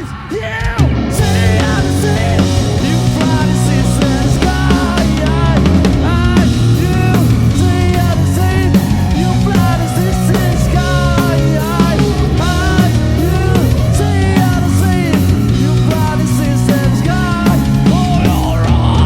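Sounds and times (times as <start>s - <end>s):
bass guitar: 0.0s - 19.0s
steady drums: 0.0s - 19.0s
electric guitar bending pitch: 0.8s - 19.0s.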